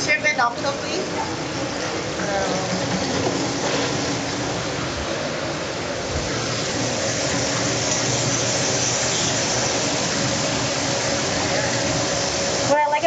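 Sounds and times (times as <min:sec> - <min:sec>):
exhaust hood fan: 0:00.0 - 0:13.0
oil sizzling in deep fryer: 0:00.0 - 0:13.0.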